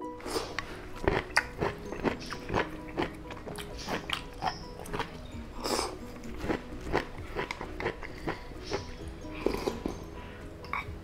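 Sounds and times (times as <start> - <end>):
soft background music: 0.0 - 11.0
chewing: 0.2 - 10.0.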